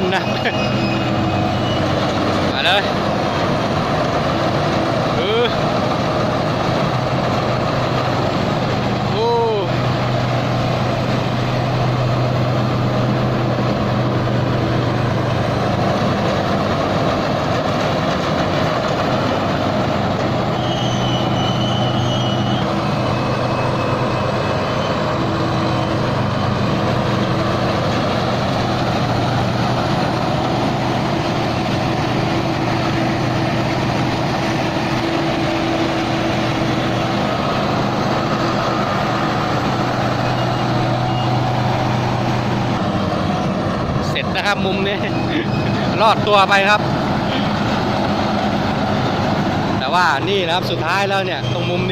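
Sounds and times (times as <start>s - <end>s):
combine harvester droning: 0.0s - 51.9s.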